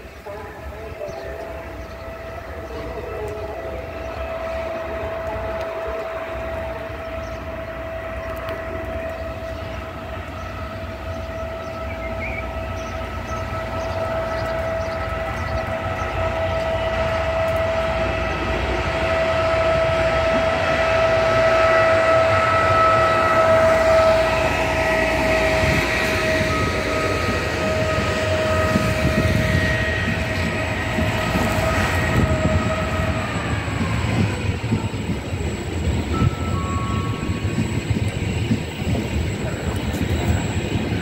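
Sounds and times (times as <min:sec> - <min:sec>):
electric locomotive whine: 0:00.0 - 0:41.0
rail rumble: 0:00.0 - 0:41.0.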